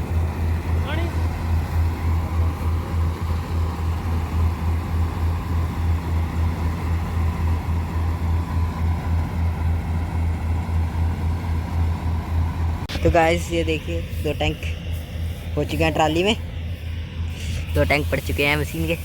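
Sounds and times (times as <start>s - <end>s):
diesel engine throbbing: 0.0s - 19.0s.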